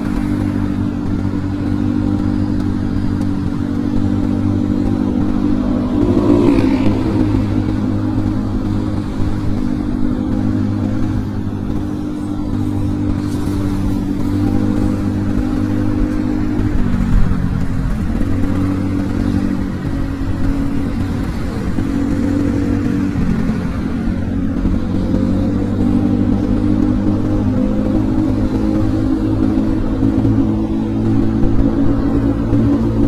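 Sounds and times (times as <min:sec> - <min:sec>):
motor scooter engine: 0:00.0 - 0:33.0.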